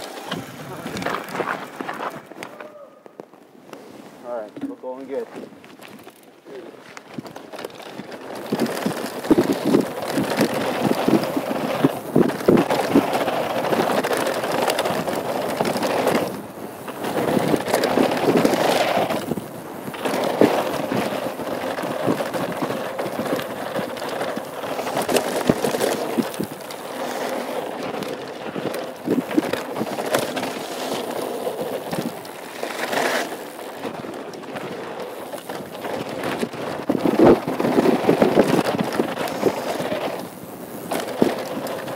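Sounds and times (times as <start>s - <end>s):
bike rattling over bumps: 0.0s - 3.4s, 4.2s - 41.9s.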